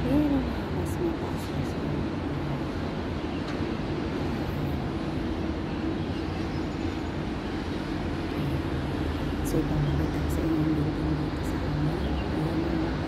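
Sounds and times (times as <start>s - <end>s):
distant city traffic hum: 0.0s - 13.0s.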